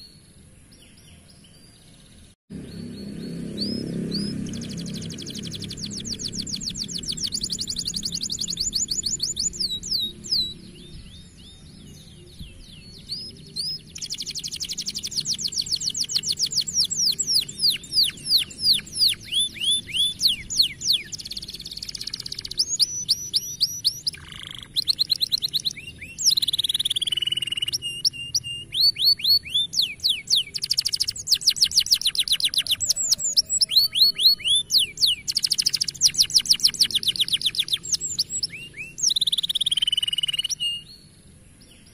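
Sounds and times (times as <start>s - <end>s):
canary singing trills: 0.8s - 41.9s.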